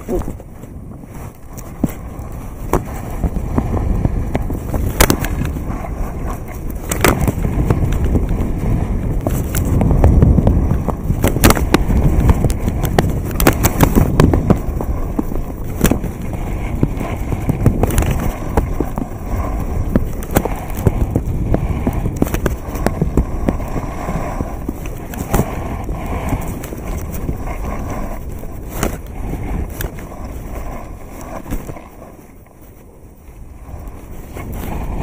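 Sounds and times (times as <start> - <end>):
skis scraping over hard snow: 0.0 - 35.0
wind rumbling on microphone: 0.0 - 35.0.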